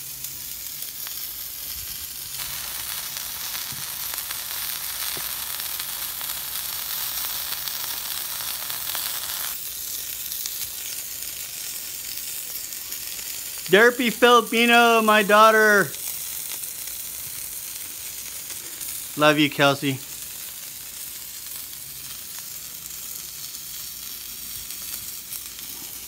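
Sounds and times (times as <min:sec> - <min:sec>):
meat sizzling on a griddle: 0:00.0 - 0:26.0.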